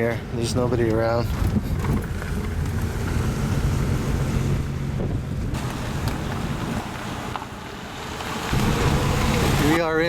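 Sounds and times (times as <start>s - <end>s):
car engine hum: 0.0s - 10.0s
road noise: 0.0s - 10.0s
wind rushing over microphone: 0.2s - 7.4s, 8.3s - 10.0s.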